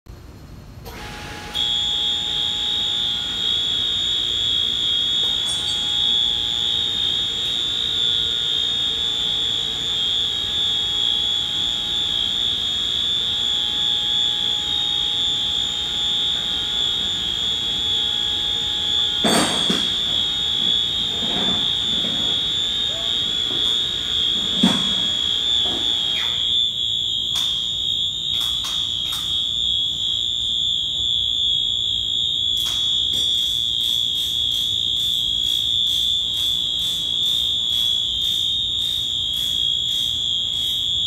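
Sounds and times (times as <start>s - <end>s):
high-pitched crane warning alarm: 0.8s - 41.0s.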